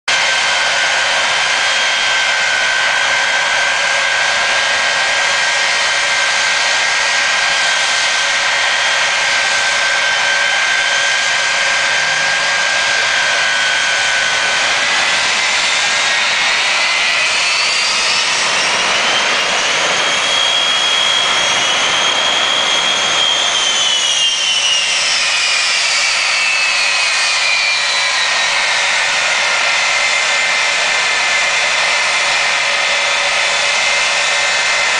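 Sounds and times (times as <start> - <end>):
jet engine turbine whine: 0.1 - 34.9.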